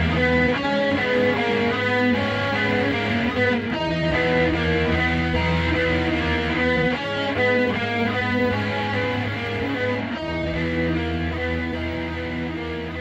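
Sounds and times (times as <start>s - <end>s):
guitar picking notes: 0.0s - 13.0s
low bass notes: 0.0s - 13.0s.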